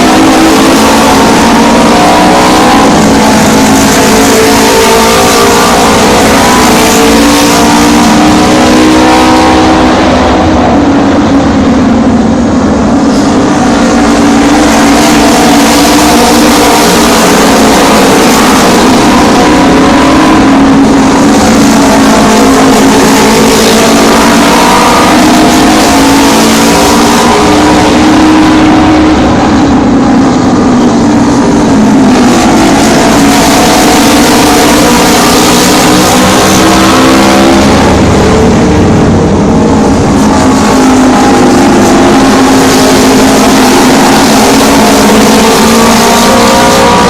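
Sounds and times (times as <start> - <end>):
racing motorcycle engines: 0.0 - 47.0.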